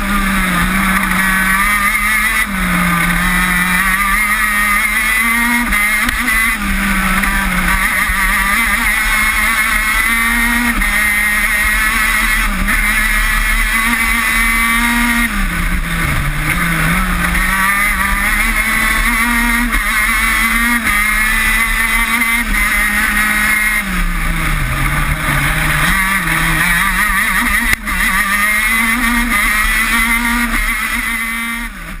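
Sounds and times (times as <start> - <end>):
kart engine racing: 0.0 - 32.0.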